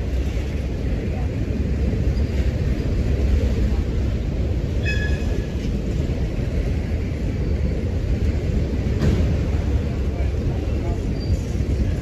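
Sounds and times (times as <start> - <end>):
train rumbling past on rails: 0.0 - 12.0.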